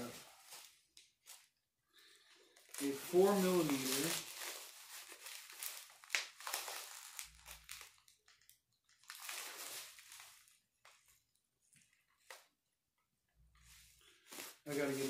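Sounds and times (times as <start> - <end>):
bubble wrap crinkling: 0.0 - 12.6, 13.6 - 15.0.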